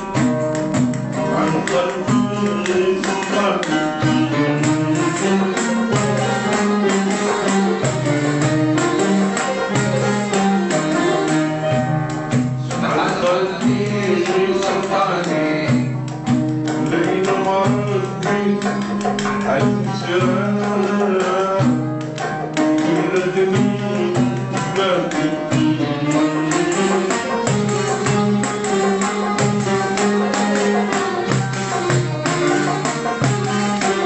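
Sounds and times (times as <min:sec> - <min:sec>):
acoustic guitar playing: 0:00.0 - 0:34.0
hand drum beating: 0:00.0 - 0:34.0.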